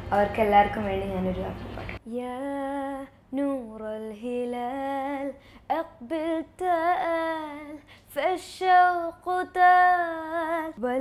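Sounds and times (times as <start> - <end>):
girl singing unaccompanied: 2.0 - 11.0.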